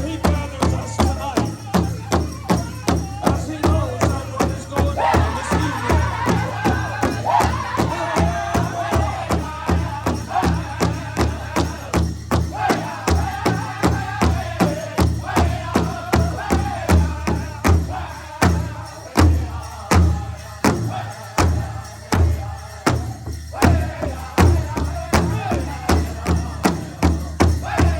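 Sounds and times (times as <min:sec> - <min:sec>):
voices singing or chanting: 0:00.0 - 0:27.9.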